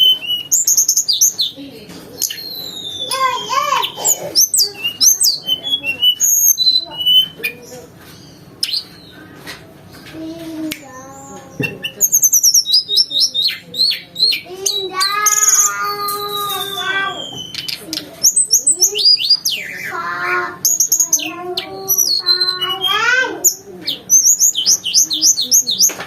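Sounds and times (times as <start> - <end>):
bird singing whistled song: 0.0 - 1.6, 2.2 - 7.4, 11.1 - 20.0, 20.6 - 26.0.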